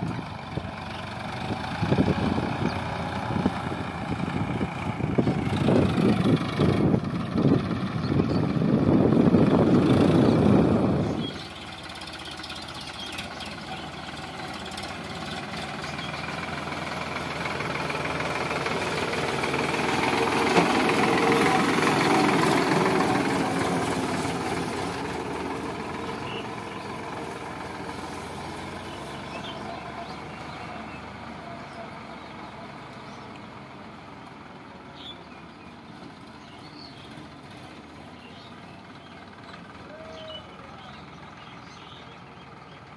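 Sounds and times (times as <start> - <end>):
tractor diesel engine under load: 0.0 - 42.9
tractor engine passing by: 0.0 - 42.9.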